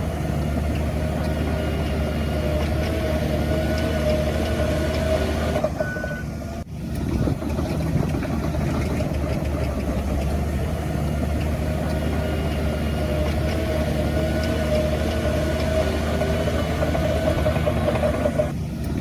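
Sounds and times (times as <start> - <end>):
heavy machinery diesel engines: 0.0 - 19.0.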